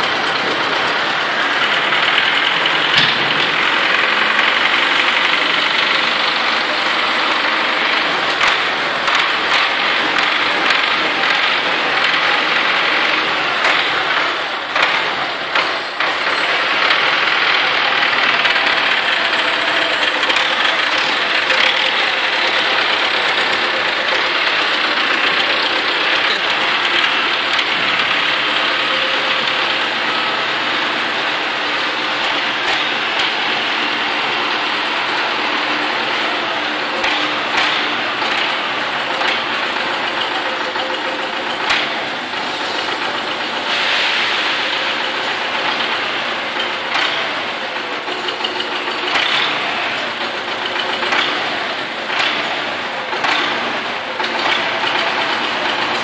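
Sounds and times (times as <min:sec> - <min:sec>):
loader knocking: 0:00.0 - 0:56.0
tractor diesel engine running: 0:00.0 - 0:56.0.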